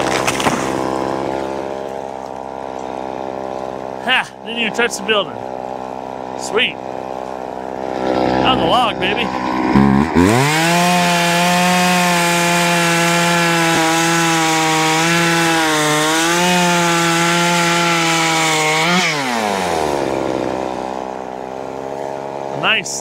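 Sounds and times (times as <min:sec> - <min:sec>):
chainsaw cutting log: 0:00.0 - 0:22.8.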